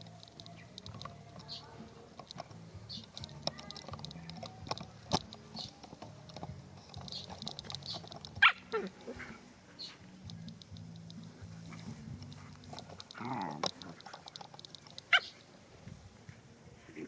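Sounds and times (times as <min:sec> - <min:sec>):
small clicks: 0:00.0 - 0:09.1, 0:10.2 - 0:11.5, 0:12.2 - 0:15.5.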